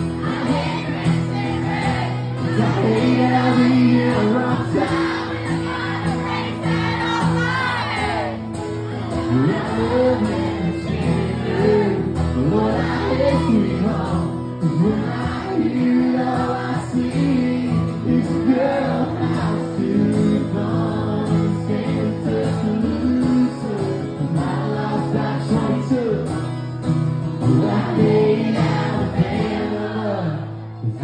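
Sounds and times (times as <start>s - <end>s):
acoustic guitars: 0.0s - 31.0s
man singing: 1.7s - 6.2s, 9.0s - 26.6s, 27.4s - 31.0s.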